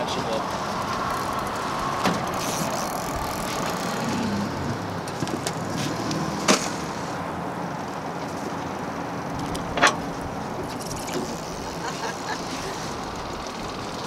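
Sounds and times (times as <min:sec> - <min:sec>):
boat rushing on river: 0:00.0 - 0:14.0.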